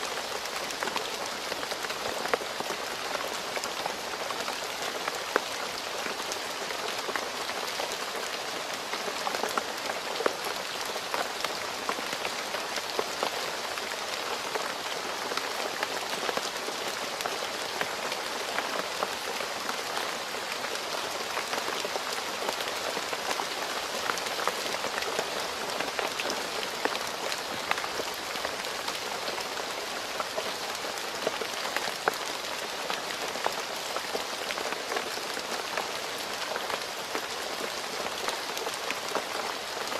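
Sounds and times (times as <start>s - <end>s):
rain on hard surface: 0.0s - 39.9s.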